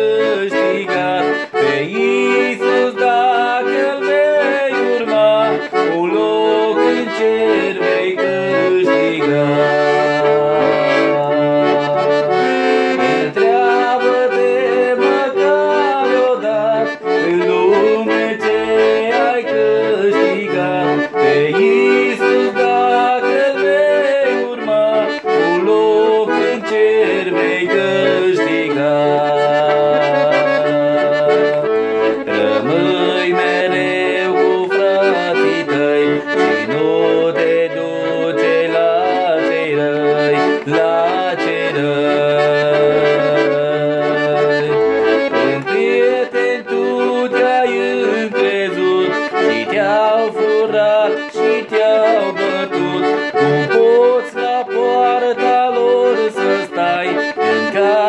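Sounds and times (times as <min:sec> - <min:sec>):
piano accordion melody: 0:00.0 - 0:58.0.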